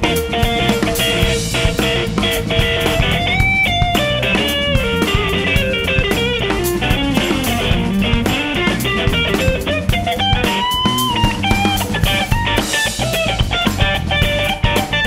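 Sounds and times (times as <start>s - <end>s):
bass: 0.0s - 15.0s
drum kit: 0.0s - 15.0s
electric guitar melody: 0.0s - 15.0s.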